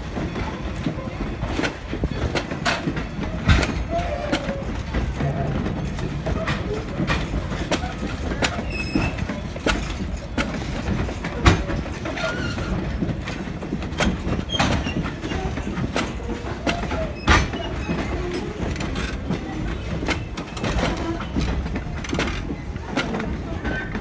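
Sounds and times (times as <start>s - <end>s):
train coaches rumbling past: 0.0s - 24.0s.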